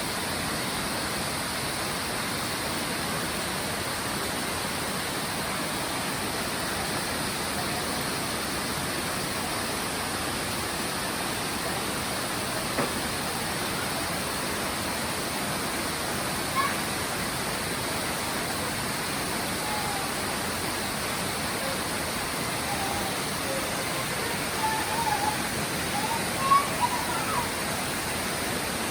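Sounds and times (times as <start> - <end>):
rain falling in forest: 0.0 - 28.9.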